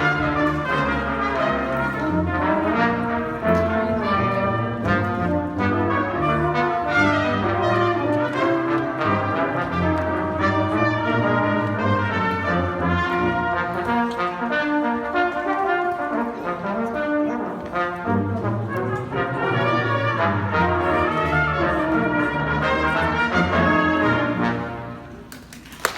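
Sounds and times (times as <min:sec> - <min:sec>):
school band with brass: 0:00.0 - 0:25.9.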